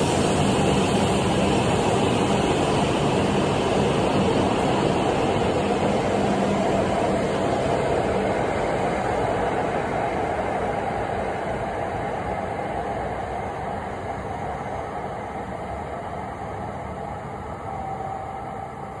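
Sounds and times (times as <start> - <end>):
high-speed train running: 0.0 - 19.0.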